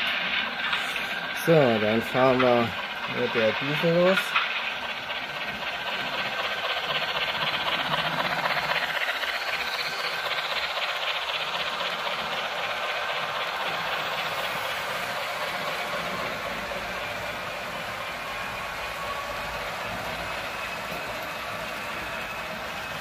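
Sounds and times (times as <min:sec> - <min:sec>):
model locomotive diesel engine sound: 0:00.0 - 0:23.0.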